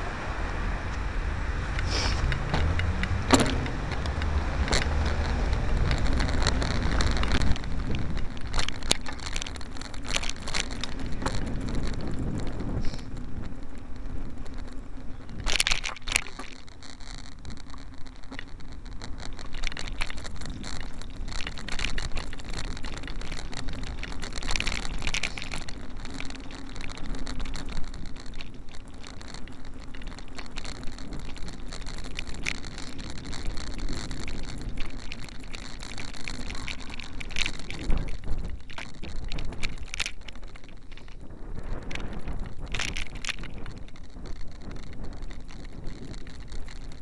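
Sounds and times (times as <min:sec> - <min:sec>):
road and wind noise: 0:00.0 - 0:47.0
steady low hum: 0:00.0 - 0:47.0
camera crackling and knocking: 0:01.7 - 0:47.0.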